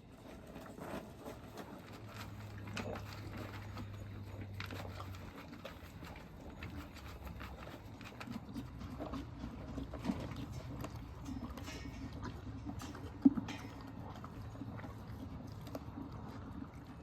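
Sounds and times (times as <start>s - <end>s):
farm animals moving about: 0.0s - 17.0s
low steady hum: 0.0s - 17.0s.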